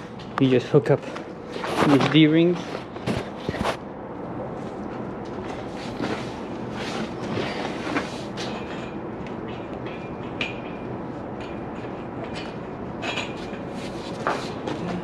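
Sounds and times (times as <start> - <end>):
low rumble of machinery: 0.0 - 15.0.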